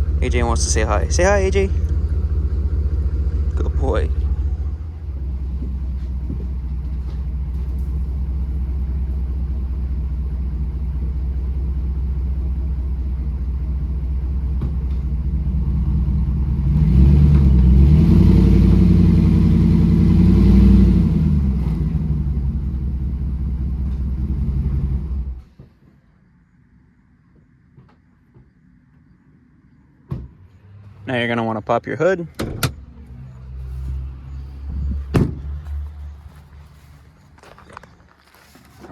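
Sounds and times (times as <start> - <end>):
pickup engine idling and revving: 0.0 - 25.5, 30.1 - 38.6.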